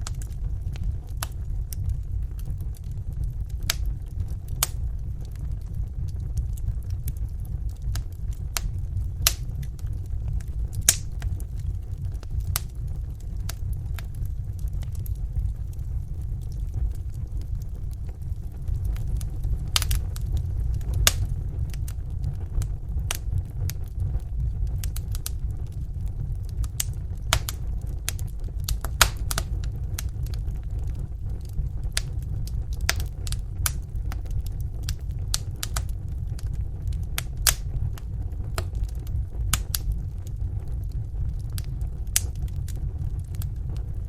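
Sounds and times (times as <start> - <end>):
fire popping and crackling: 0.0 - 44.0
fire rumbling: 0.0 - 44.0.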